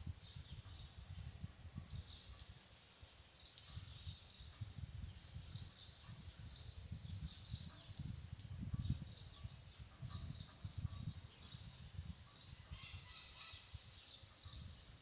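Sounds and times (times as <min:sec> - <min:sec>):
faint steady hiss: 0:00.0 - 0:15.0
birds chirping: 0:00.1 - 0:15.0.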